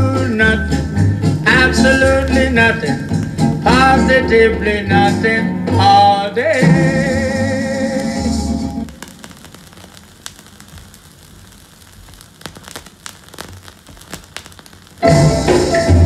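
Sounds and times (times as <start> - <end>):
vinyl record surface noise: 0.0 - 5.4, 6.5 - 16.0
record music: 0.0 - 16.0.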